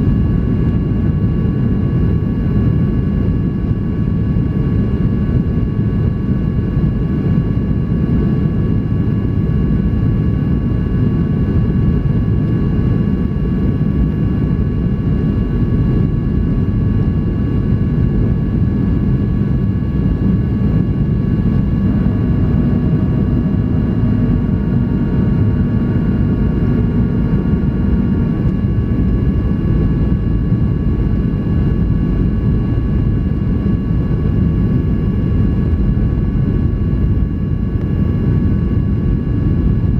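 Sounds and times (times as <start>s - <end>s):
jet engine and airflow roar: 0.0s - 39.9s.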